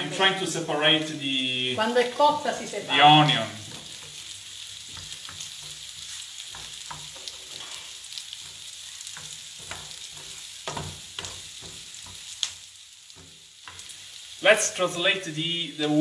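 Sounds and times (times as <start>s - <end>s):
onion sizzling in oil: 0.0s - 16.0s.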